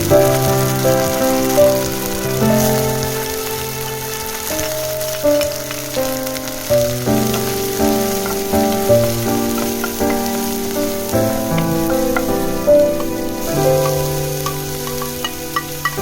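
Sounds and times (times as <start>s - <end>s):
background music: 0.0s - 16.0s
rice sizzling in a pan: 0.0s - 16.0s.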